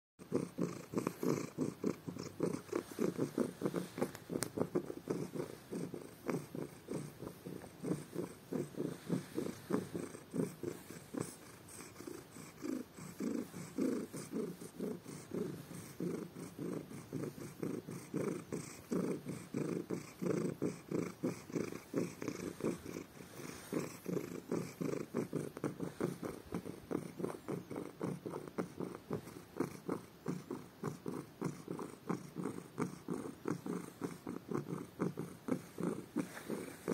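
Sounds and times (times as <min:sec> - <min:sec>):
cat purring loudly: 0:00.2 - 0:36.9.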